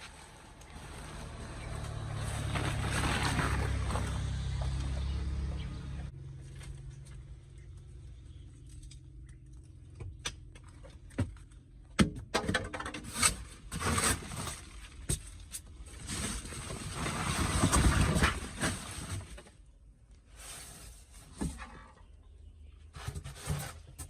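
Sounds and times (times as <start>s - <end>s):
knocks and scraping: 0.0s - 19.6s, 20.4s - 24.0s.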